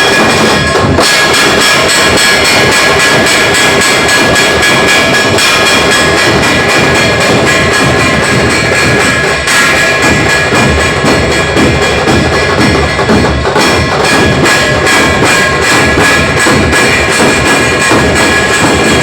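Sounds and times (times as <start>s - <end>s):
fast loud drumming: 0.0s - 19.0s
steady ringing: 0.0s - 19.0s.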